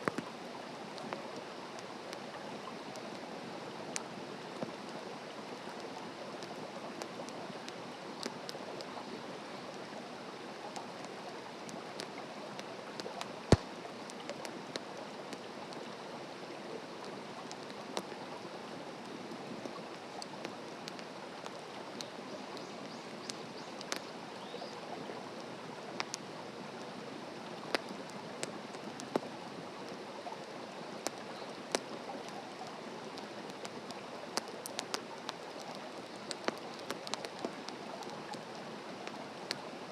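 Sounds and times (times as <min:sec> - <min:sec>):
campfire crackling and popping: 0:00.0 - 0:10.0, 0:10.7 - 0:16.0, 0:16.9 - 0:39.9.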